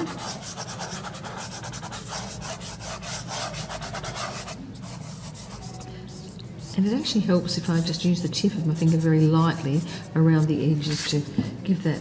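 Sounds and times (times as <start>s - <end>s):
fingertip rubbing pastel on paper: 0.0s - 11.2s.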